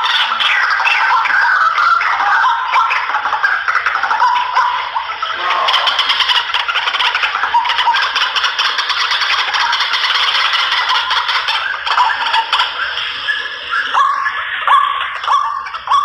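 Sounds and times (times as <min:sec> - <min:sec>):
waterhens croaking calls: 0:00.0 - 0:16.0.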